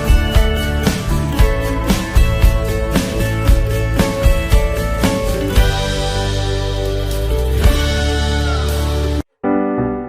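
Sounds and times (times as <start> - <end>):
background music: 0.0 - 10.0
piano music: 0.0 - 10.0.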